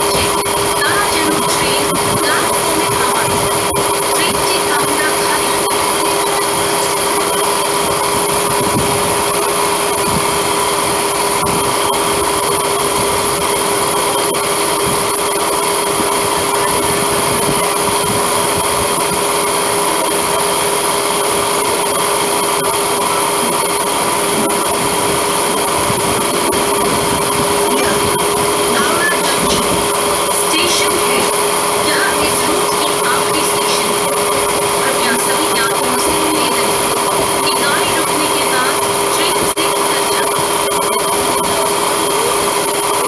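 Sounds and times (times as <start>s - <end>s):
electric train whine: 0.0s - 43.0s
train running noise: 0.0s - 43.0s.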